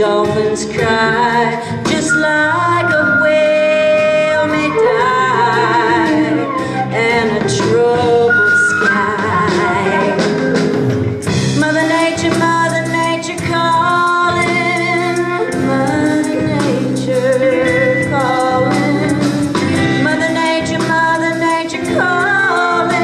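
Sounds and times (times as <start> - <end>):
instrumental accompaniment: 0.0 - 23.0
song with long sung notes: 0.0 - 23.0.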